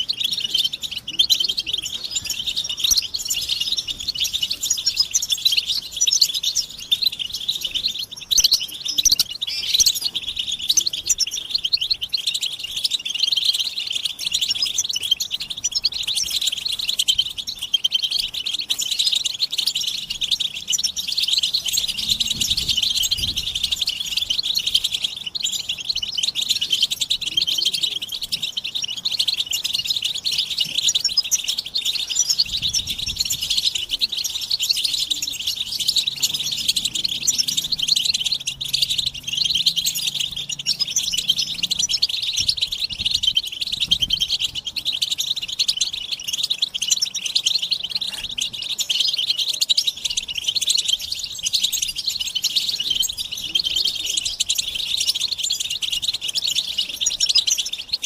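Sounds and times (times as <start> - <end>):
goldfinches twittering: 0.0 - 58.0.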